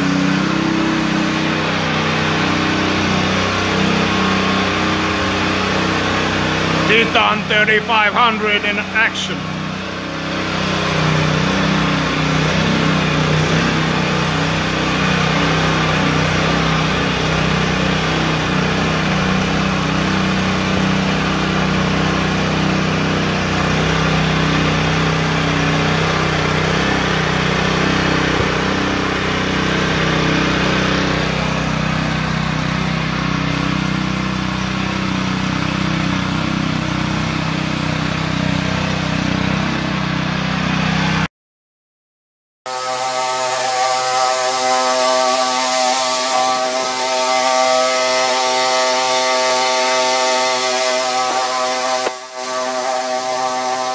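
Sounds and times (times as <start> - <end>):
small gasoline engine running: 0.0 - 41.3, 42.7 - 53.9.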